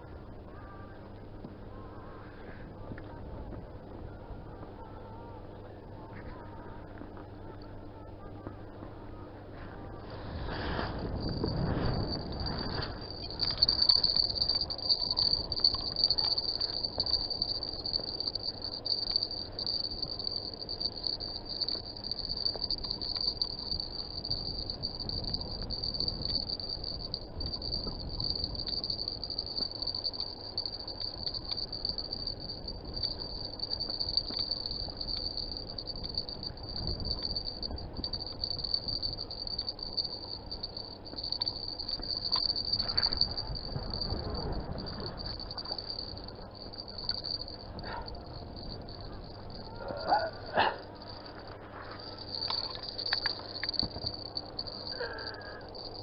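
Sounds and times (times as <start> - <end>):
wind rumble: 10.1 - 56.0
high-pitched insect trill: 10.4 - 56.0.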